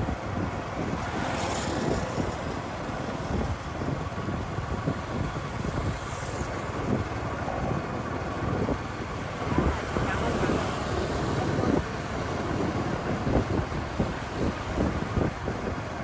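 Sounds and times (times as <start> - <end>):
road and traffic noise: 0.0 - 16.0
wind buffeting microphone: 0.0 - 16.0.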